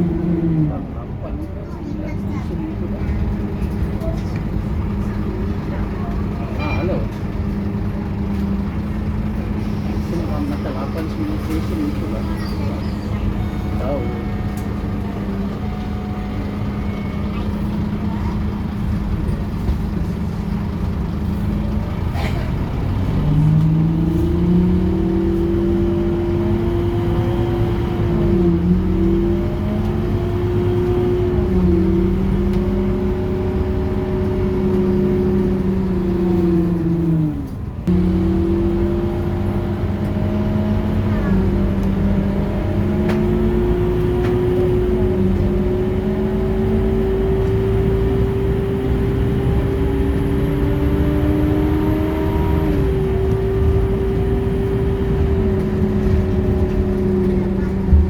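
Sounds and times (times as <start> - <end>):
bus diesel engine pulling: 0.0 - 58.0.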